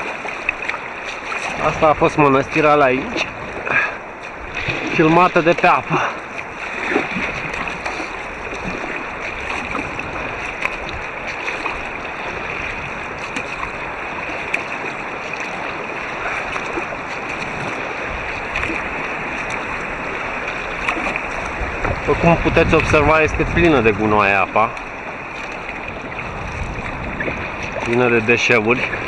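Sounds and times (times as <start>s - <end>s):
muffled river water rushing: 0.0s - 29.0s.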